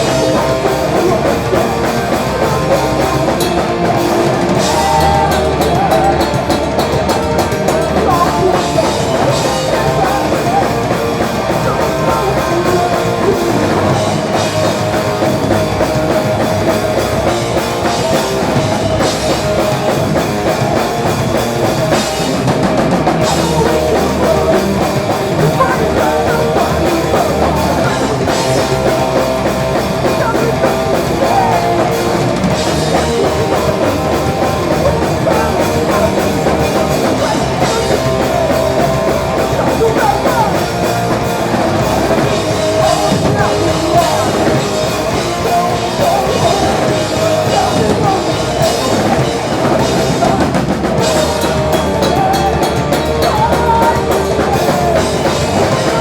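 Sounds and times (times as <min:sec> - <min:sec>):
punk rock band playing live: 0:00.0 - 0:56.0.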